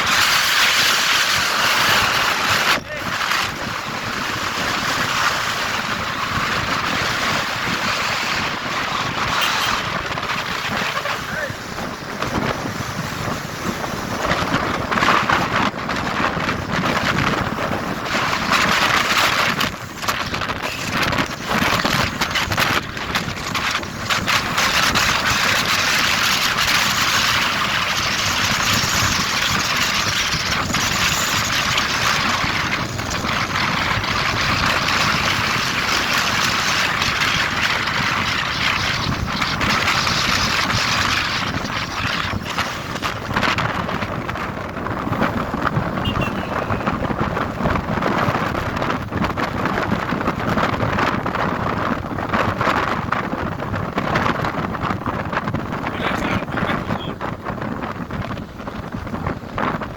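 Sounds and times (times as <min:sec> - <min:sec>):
motorbike engine: 0:00.0 - 0:53.6
tyre noise on road: 0:00.0 - 0:59.9
wind rushing over microphone: 0:00.0 - 0:59.9.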